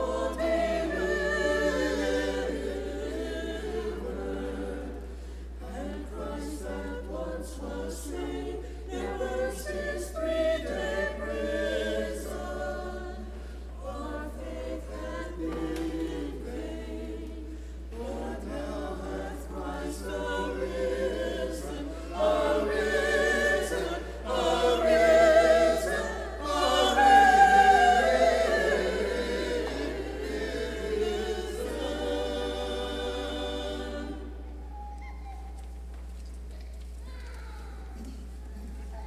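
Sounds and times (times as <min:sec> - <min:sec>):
church choir singing: 0:00.0 - 0:35.8.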